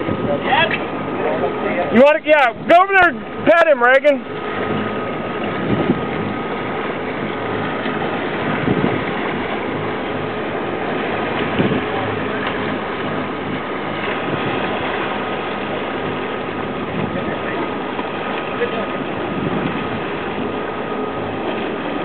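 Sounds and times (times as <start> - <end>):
boat engines droning: 0.0 - 22.0.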